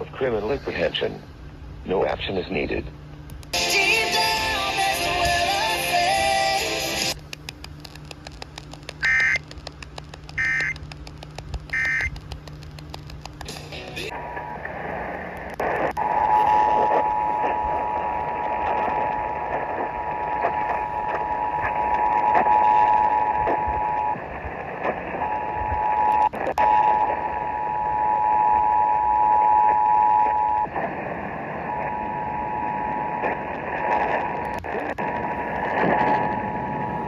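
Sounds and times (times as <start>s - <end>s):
heavy radio static: 0.0s - 3.0s, 7.8s - 12.2s, 13.4s - 37.0s.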